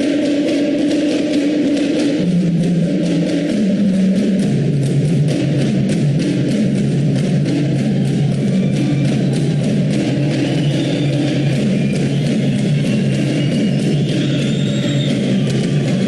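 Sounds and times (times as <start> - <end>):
drum strokes: 0.0 - 16.0.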